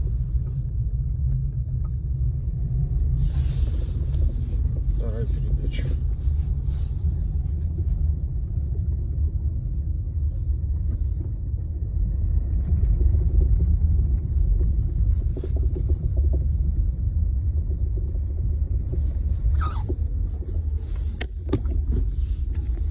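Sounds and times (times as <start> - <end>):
car road rumble: 0.0 - 22.9.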